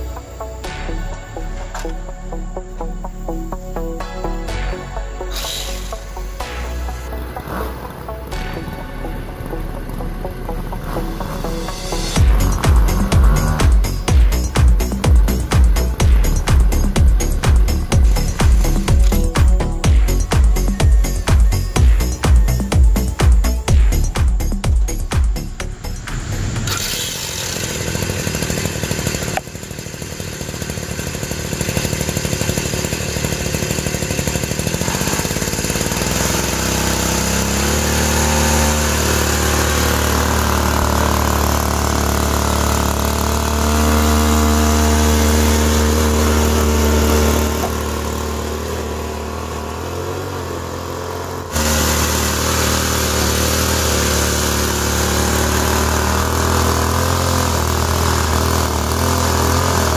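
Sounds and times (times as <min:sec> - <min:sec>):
toy truck motors humming: 0:05.3 - 0:59.9.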